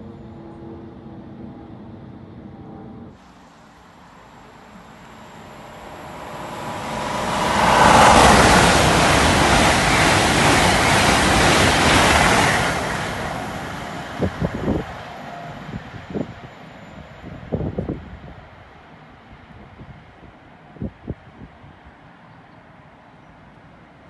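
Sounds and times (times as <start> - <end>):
train rushing roar: 0.0 - 21.4.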